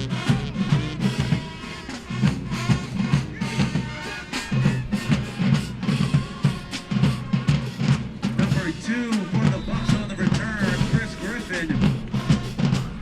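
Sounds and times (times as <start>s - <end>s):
music with heavy drum beat: 0.0s - 13.0s.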